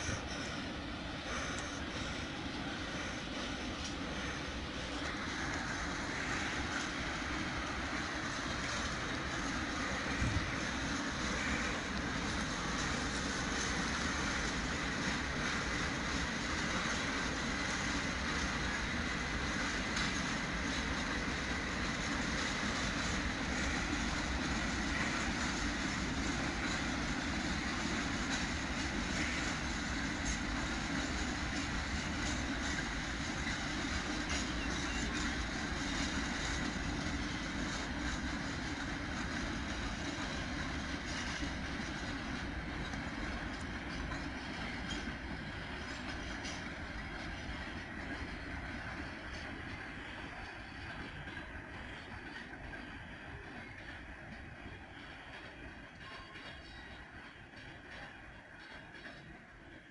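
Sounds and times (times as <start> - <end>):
freight wagon wheels rumbling on rail: 0.0 - 59.9.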